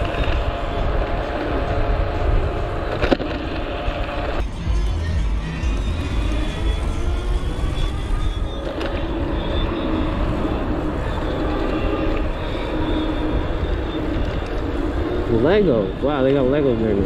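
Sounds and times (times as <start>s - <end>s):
electric motor whine: 0.0s - 17.0s
tyre noise: 0.0s - 17.0s
wind rushing over microphone: 0.0s - 17.0s.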